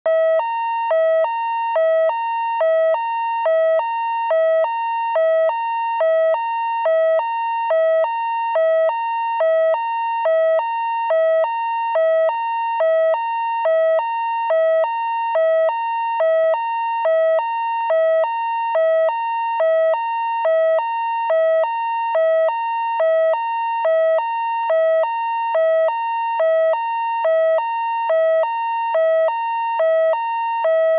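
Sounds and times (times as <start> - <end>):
two-tone fire truck siren: 0.1 - 30.9.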